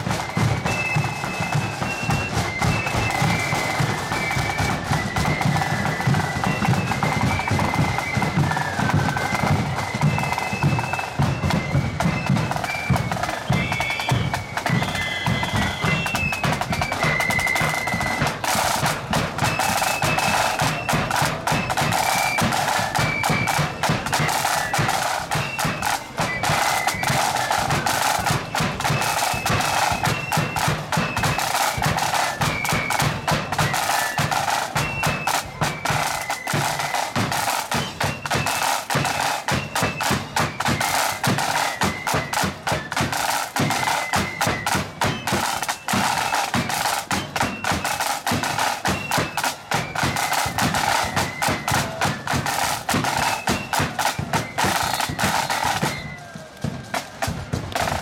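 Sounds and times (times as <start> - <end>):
flute melody: 0.0 - 58.0
side drums rattling: 0.0 - 58.0.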